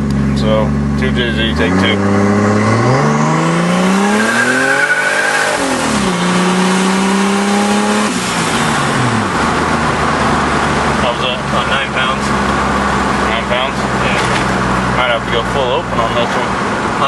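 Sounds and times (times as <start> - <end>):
turbocharged engine accelerating: 0.0 - 17.0.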